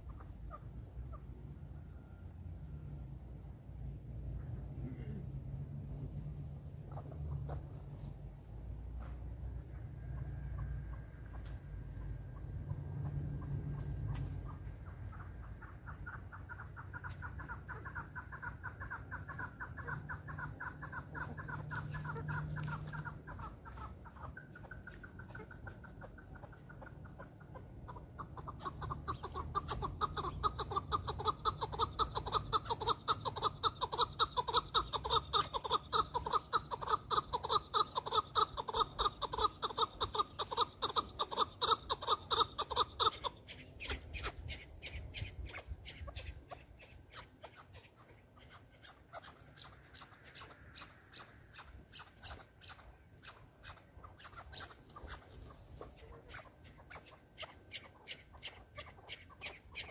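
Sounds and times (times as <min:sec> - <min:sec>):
partridge clucking calls: 0:00.0 - 0:01.4, 0:06.8 - 0:59.9.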